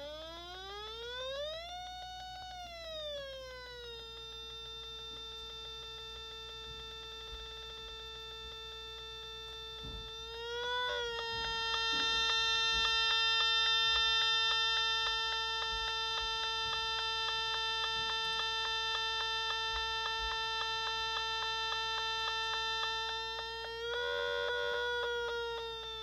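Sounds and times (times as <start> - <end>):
pulsing buzzy synthesizer tone: 0.0 - 26.0.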